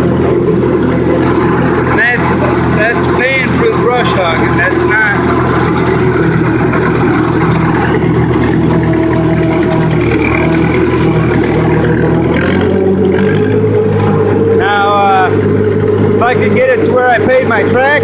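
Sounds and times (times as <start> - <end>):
rotary mower cutting: 0.0 - 18.0
tractor engine under load: 0.0 - 18.0.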